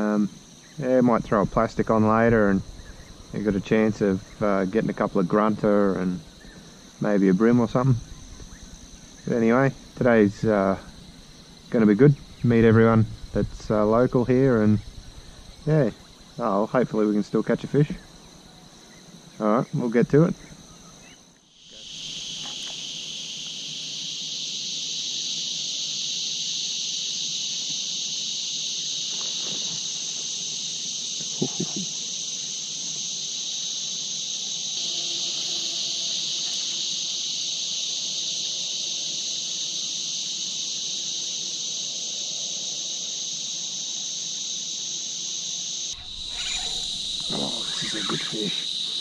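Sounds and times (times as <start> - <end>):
insects chorus: 0.0 - 49.0.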